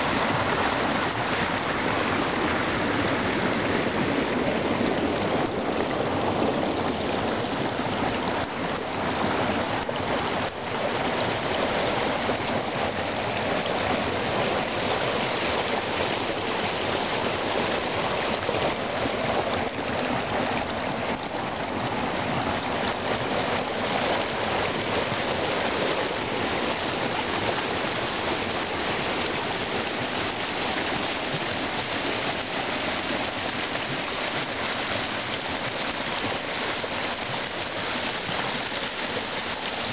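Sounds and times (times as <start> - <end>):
small waterfall rushing and splashing: 0.0 - 39.9.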